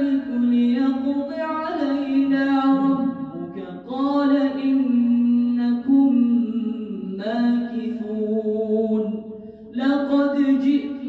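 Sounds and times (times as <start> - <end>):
man chanting melodically: 0.0 - 9.1.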